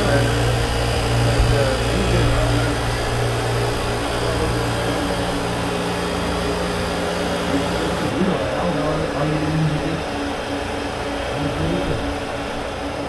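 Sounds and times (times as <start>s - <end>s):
faint whir: 0.0s - 13.0s
machinery hum: 0.0s - 13.0s
steady tones: 0.0s - 13.0s.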